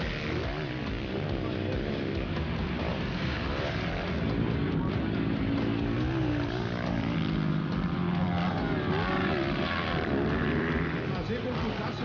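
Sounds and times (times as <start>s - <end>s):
dirt bikes revving: 0.0s - 12.0s.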